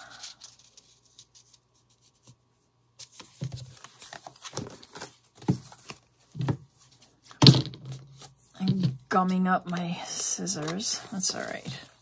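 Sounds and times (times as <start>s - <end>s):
paper rustling: 0.0s - 2.4s, 3.0s - 7.4s, 9.2s - 12.0s.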